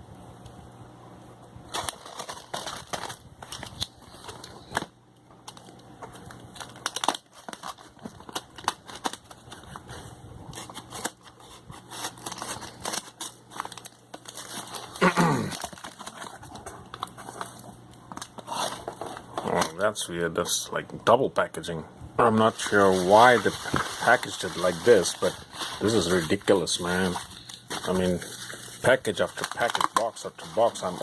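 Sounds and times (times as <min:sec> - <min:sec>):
packaging crinkling and tearing: 0:01.7 - 0:19.9, 0:22.2 - 0:31.0.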